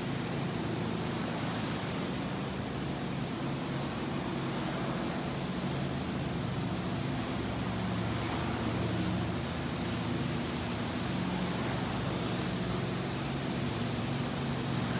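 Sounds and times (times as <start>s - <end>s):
low machine hum: 0.0s - 14.9s
vacuum suction and spray hiss: 0.0s - 14.9s.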